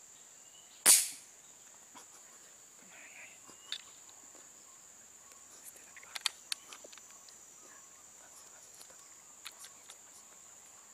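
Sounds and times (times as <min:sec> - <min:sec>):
faint night insects droning: 0:00.0 - 0:10.9.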